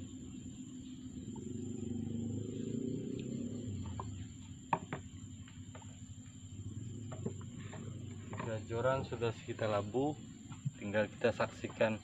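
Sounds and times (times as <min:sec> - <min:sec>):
high insect whine: 0:00.0 - 0:12.0
rumble of handling fishing gear: 0:00.0 - 0:12.0.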